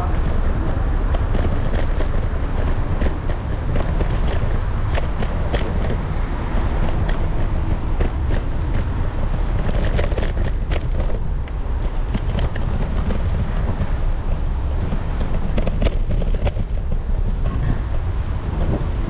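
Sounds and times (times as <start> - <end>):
scooter wheels rolling on wet brick: 0.0 - 19.0
sharp clicks and rattles: 0.0 - 19.0
wind buffeting microphone: 0.0 - 19.0.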